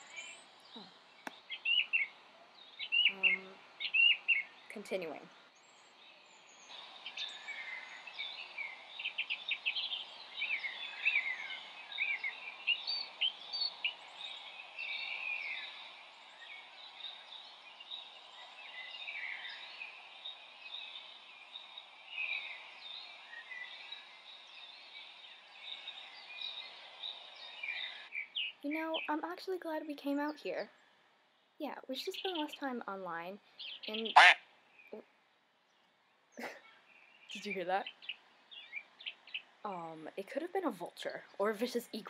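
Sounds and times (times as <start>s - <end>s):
birds chirping and calling: 0.0s - 29.2s, 32.0s - 35.0s, 36.4s - 42.0s
steady background hiss: 0.0s - 42.0s.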